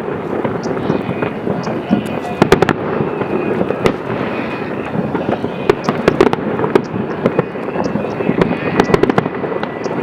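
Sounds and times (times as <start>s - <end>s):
distant fireworks bangs: 0.0s - 10.0s
firecrackers cracking and popping: 0.0s - 10.0s.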